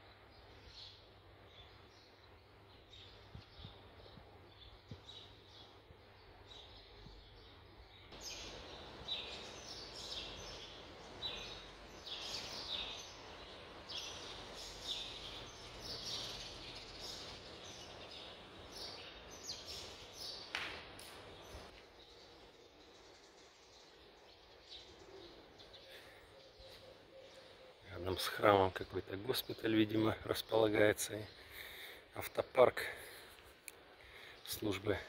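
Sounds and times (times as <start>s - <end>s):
birds chirping: 0.0s - 35.0s
low steady background hum: 0.0s - 35.0s.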